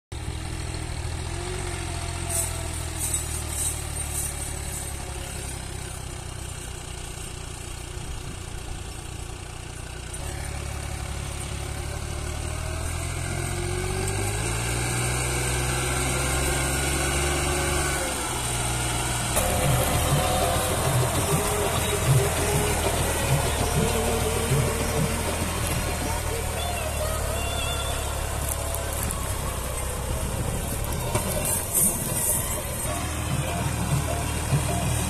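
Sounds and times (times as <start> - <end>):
tractor engine labouring: 0.1 - 35.0.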